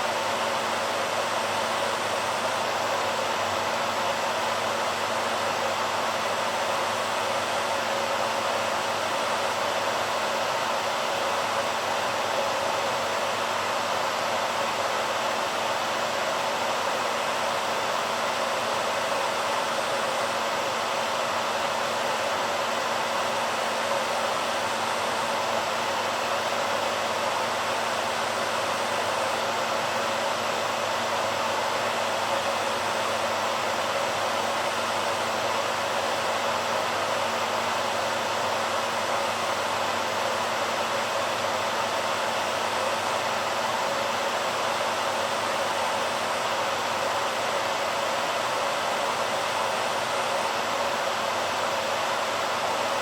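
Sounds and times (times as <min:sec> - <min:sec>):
hairdryer running: 0:00.0 - 0:53.0.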